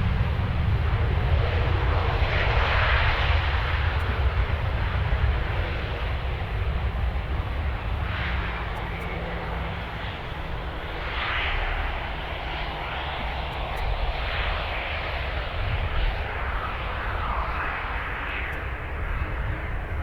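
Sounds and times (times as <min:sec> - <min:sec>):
airliner engines running: 0:00.0 - 0:20.0.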